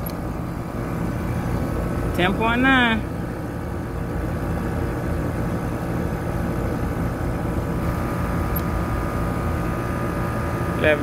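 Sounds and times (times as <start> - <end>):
air conditioner unit running: 0.0 - 11.0.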